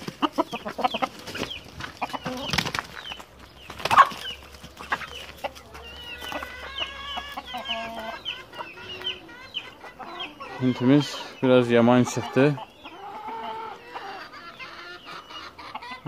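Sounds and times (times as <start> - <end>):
chickens scuffling: 0.0 - 16.0
hens clucking: 0.0 - 16.0.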